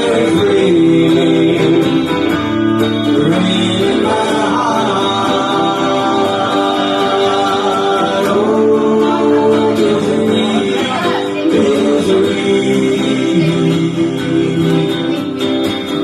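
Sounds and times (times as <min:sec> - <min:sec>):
guitar: 0:00.0 - 0:16.0.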